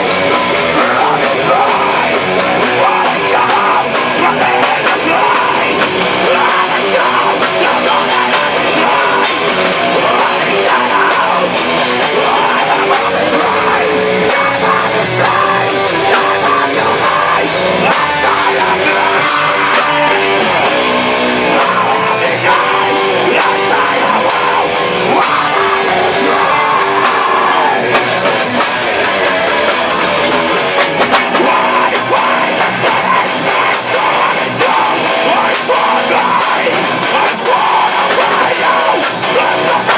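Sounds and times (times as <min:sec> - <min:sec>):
drum kit playing: 0:00.0 - 0:39.9
heavy metal guitars: 0:00.0 - 0:39.9.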